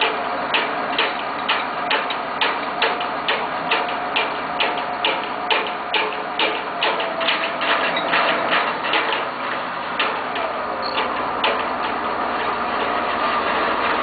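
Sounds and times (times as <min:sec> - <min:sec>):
truck engine ticking: 0:00.0 - 0:14.0.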